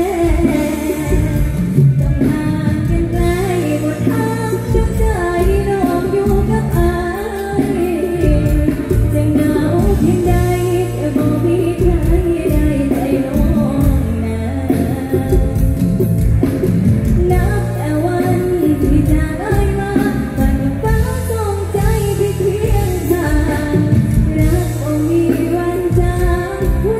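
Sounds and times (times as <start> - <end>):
electric band playing: 0.0 - 26.9
woman singing into microphone: 0.0 - 26.9.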